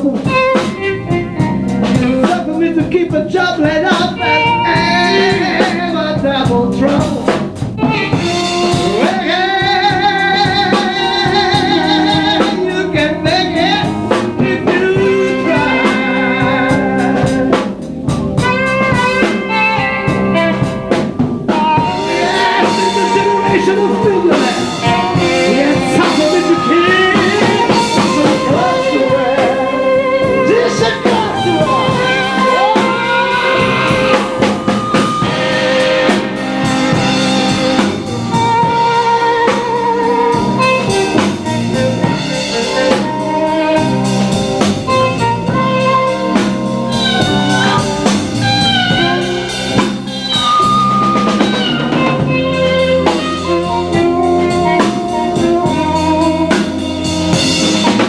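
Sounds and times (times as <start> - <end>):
blues band playing: 0.0 - 58.0
drum kit: 0.0 - 58.0
lead guitar bending notes: 0.0 - 58.0.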